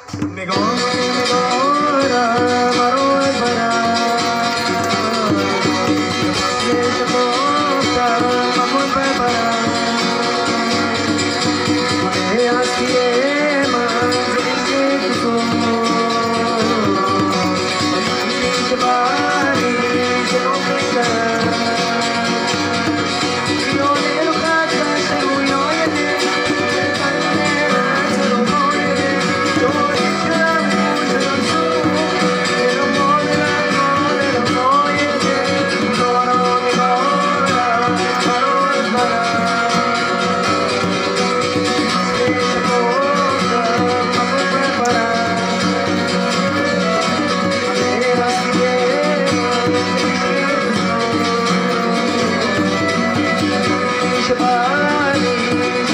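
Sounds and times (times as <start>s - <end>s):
guitars: 0.0s - 55.9s
hand drum: 0.0s - 55.9s
violin melody: 0.0s - 55.9s.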